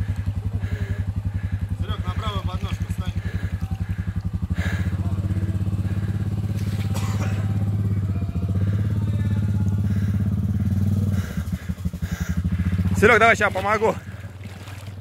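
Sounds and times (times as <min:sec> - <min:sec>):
atv engine running under load: 0:00.0 - 0:15.0
vehicle wading through water: 0:00.0 - 0:15.0.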